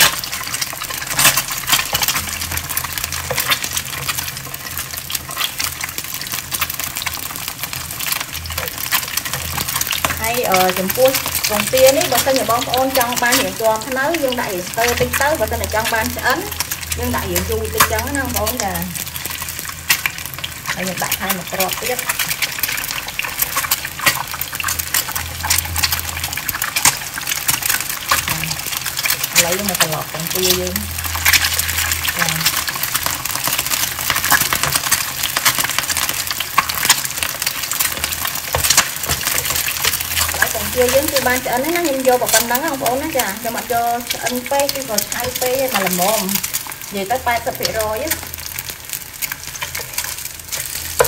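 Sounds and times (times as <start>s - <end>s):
eggs sizzling in a pan: 0.0s - 51.0s
oil crackling and popping: 0.0s - 51.0s.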